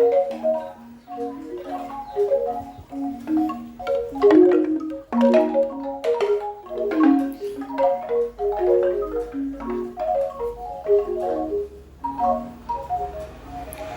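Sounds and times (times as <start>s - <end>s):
bamboo wind chime: 0.0s - 13.9s.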